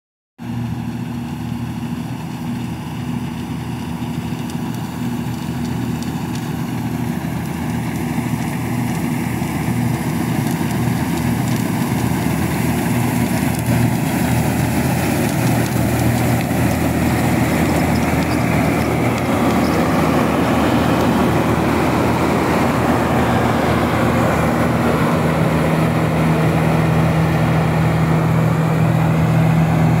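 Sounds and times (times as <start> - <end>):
combine harvester engine hum: 0.4 - 30.0.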